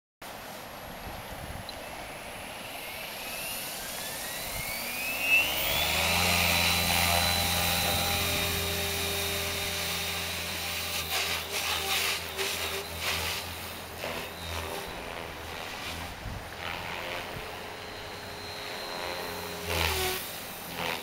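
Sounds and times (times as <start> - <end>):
electric motor whine: 1.0 - 21.0
rotor low hum: 1.0 - 21.0.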